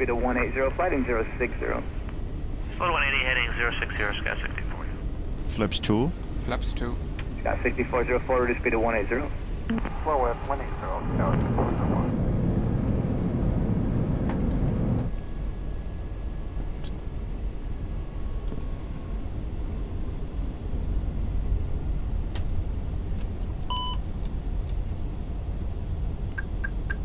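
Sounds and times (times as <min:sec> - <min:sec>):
cockpit airflow and engine rumble: 0:00.0 - 0:27.0.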